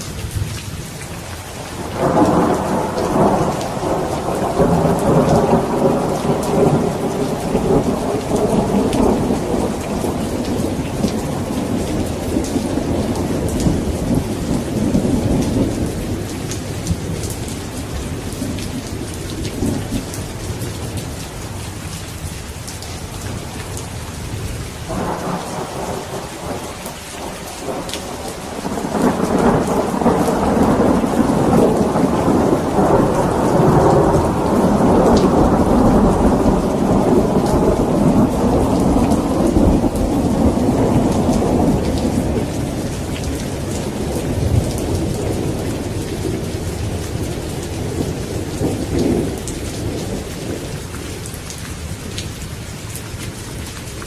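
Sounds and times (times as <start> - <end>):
heavy rain: 0.0 - 54.0
rolling thunder: 1.8 - 21.2, 23.2 - 51.3.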